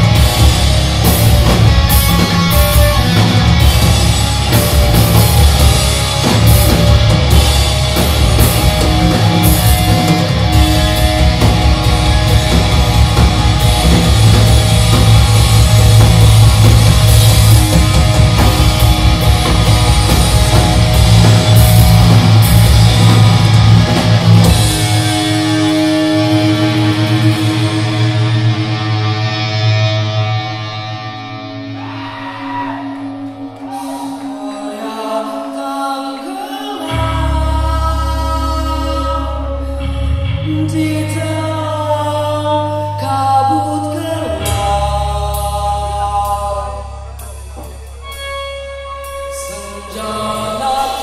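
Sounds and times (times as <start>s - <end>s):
bass guitar: 0.0s - 34.5s, 36.7s - 51.0s
distorted guitar: 0.0s - 51.0s
drums: 0.0s - 51.0s.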